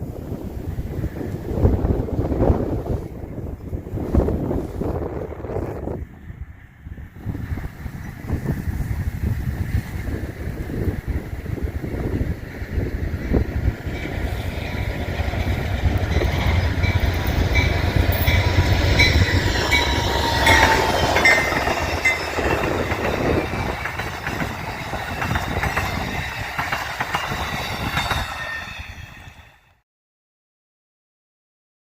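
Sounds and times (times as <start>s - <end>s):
passenger train rumble: 0.0s - 29.8s.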